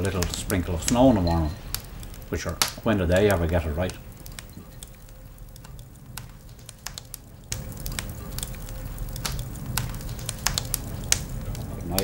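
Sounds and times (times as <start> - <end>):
logs crackling and popping: 0.0 - 12.0
low rumble of flame: 0.0 - 12.0.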